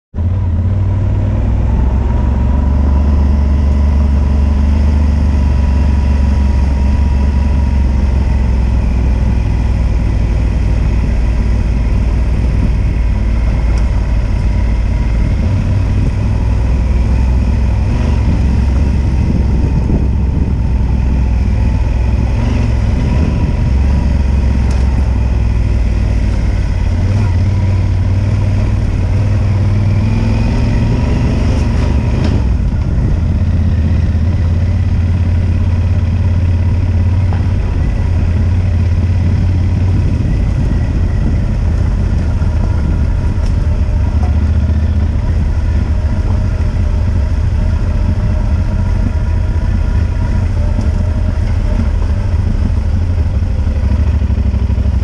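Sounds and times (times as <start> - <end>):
motorcycle engine rumbling: 0.1 - 55.0.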